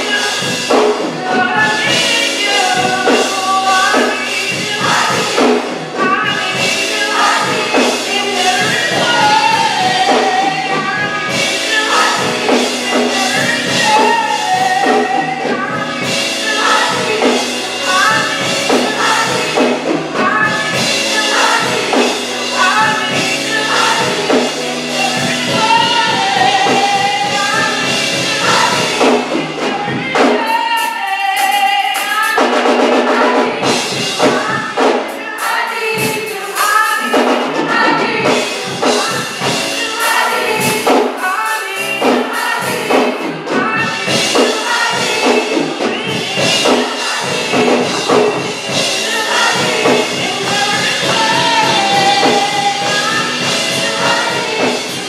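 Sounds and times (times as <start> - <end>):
choir singing: 0.0 - 55.0
instrumental backing: 0.0 - 55.0
woman singing into microphone: 0.0 - 55.0.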